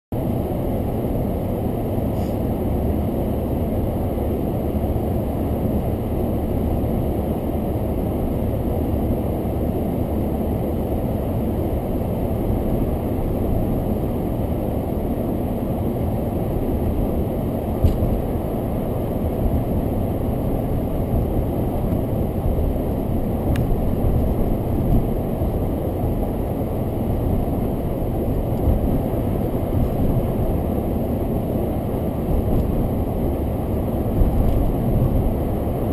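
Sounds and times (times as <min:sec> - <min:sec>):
car engine and road noise: 0:00.2 - 0:35.9.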